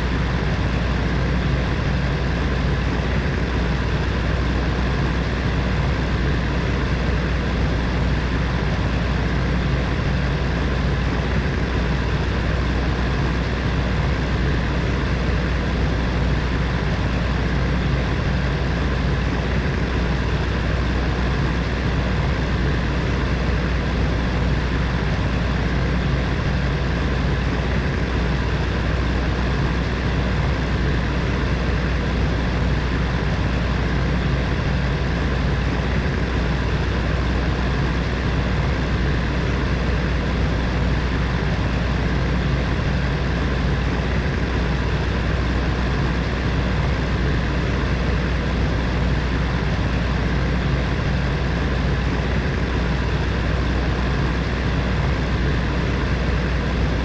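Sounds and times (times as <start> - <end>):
electric heater fan running: 0.0 - 57.0.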